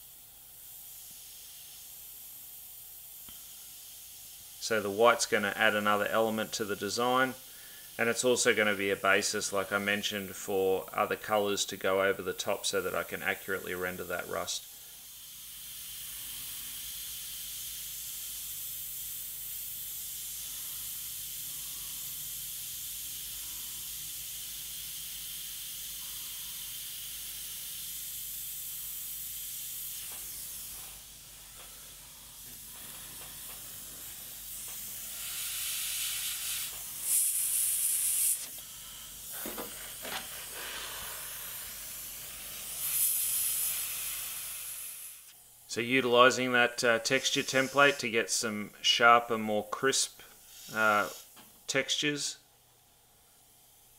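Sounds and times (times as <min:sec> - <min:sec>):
airbrush hissing: 0:00.0 - 0:52.5, 0:53.1 - 0:53.9.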